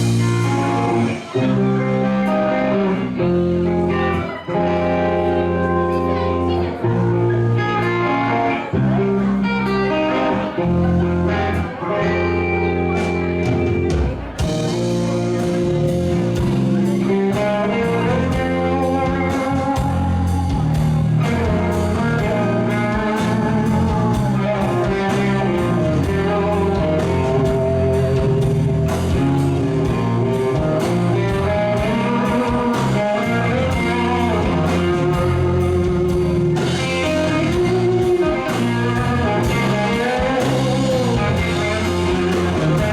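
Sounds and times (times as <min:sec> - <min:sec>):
blues-rock band instrumental: 0:00.0 - 0:42.9.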